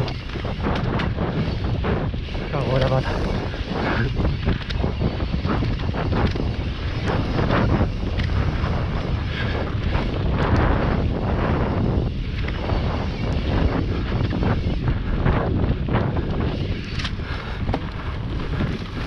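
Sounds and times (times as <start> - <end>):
bike rattling over bumps: 0.0 - 19.0
bike tyres rumbling on dirt: 0.0 - 19.0
wind buffeting microphone: 0.0 - 19.0.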